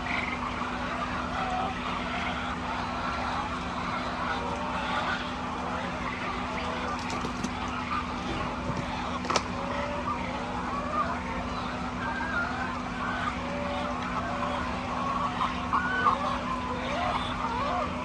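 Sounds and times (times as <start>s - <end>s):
chickens clucking: 0.0s - 18.0s
steady mechanical hum: 0.0s - 18.0s.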